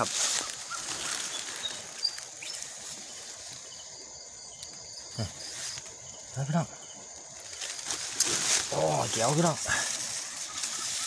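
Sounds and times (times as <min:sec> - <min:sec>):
crickets trilling: 0:00.0 - 0:11.0
short insect chirps: 0:00.0 - 0:11.0.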